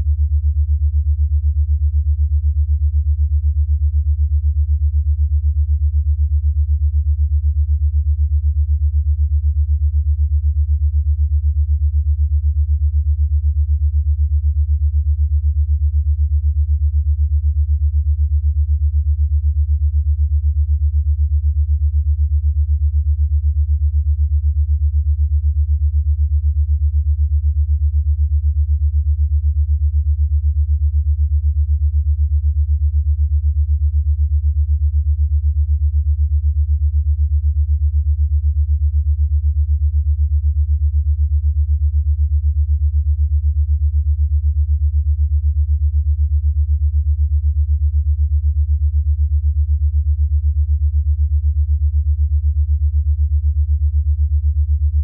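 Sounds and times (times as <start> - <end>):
low pulsing sine tone: 0.0 - 55.0.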